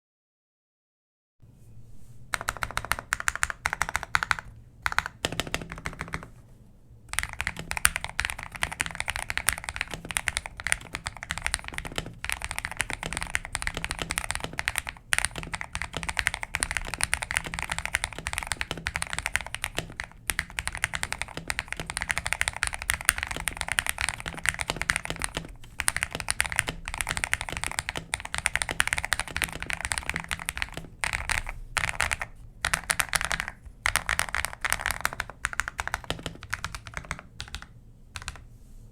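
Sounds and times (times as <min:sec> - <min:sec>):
mechanical keyboard typing: 0:02.3 - 0:06.3, 0:07.1 - 0:38.5.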